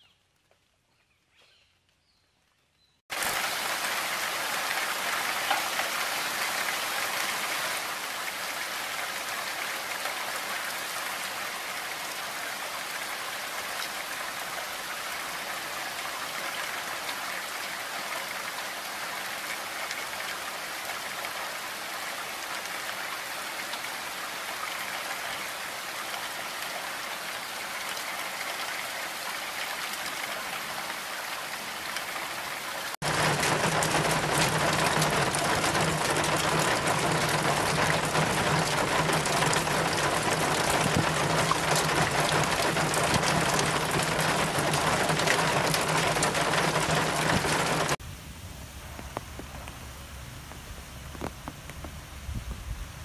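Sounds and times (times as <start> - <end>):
heavy rain falling: 3.1 - 52.6.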